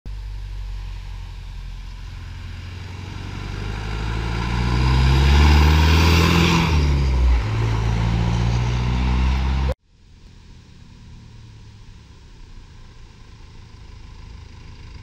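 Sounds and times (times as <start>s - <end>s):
diesel pickup accelerating past: 0.1s - 15.0s.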